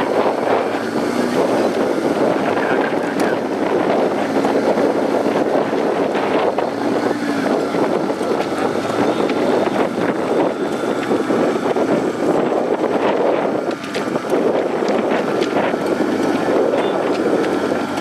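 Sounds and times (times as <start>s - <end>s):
buggy engine running: 0.0s - 18.0s
wind noise on microphone: 0.0s - 18.0s.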